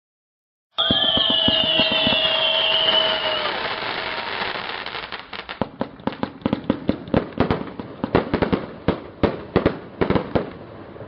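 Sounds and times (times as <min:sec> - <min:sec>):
firework cake sharp bangs: 0:00.8 - 0:10.6.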